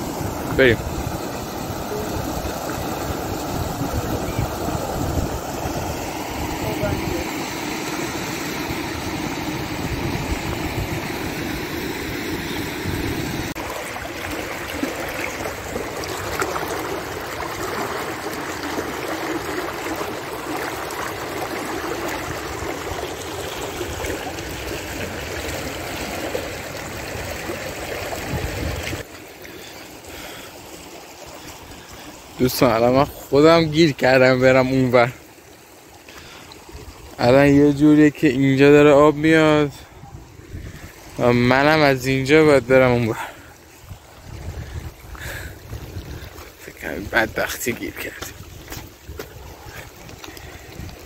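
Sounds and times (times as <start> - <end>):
floodwater rushing over stones: 0.0 - 51.0.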